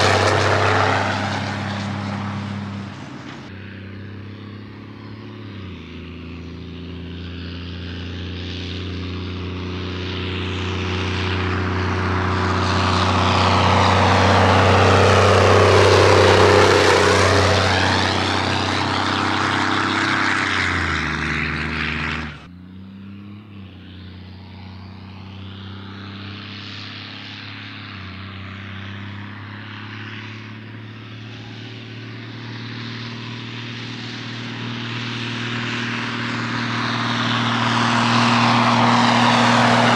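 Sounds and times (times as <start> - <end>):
diesel engine under heavy load: 0.0 - 39.9.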